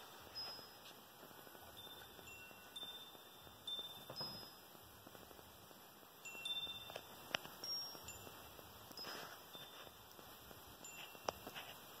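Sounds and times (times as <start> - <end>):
wind chimes ringing: 0.2 - 4.8, 6.2 - 11.8.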